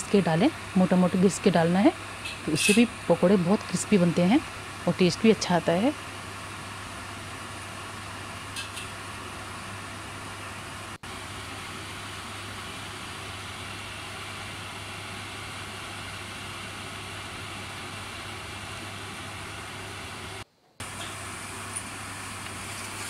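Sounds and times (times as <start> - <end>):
sizzle of bubbling oil: 1.8 - 23.0.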